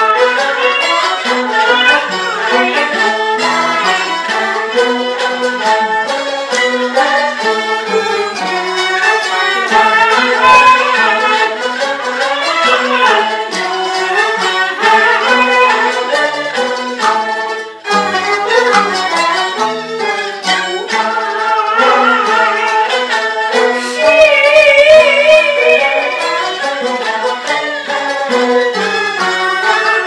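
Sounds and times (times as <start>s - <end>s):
bowed fiddle playing fast notes: 0.0s - 30.0s.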